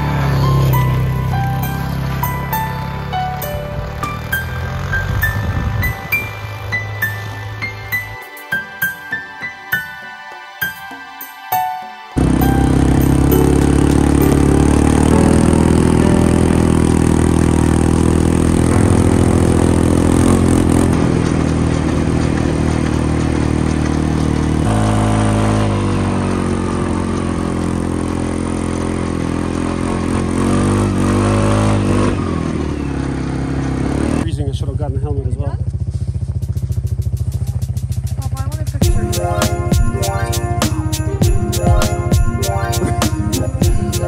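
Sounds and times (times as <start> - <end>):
small vehicle engine running: 0.0 - 8.2, 12.2 - 44.0.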